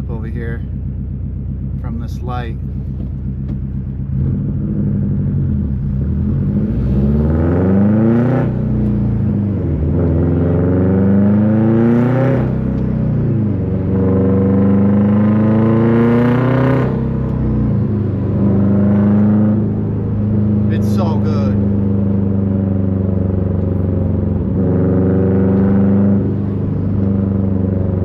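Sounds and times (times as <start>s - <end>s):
turbocharged car engine accelerating: 1.7s - 28.0s.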